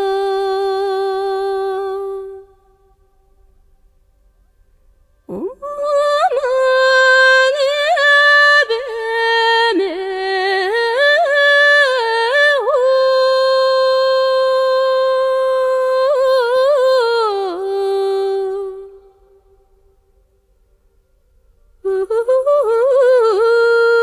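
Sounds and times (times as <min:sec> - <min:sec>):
woman singing unaccompanied: 0:00.0 - 0:02.9, 0:05.3 - 0:19.5, 0:21.8 - 0:24.0.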